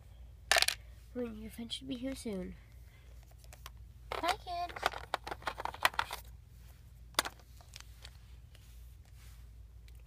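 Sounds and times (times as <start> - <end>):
steady low hum: 0.0 - 4.3, 4.9 - 10.0.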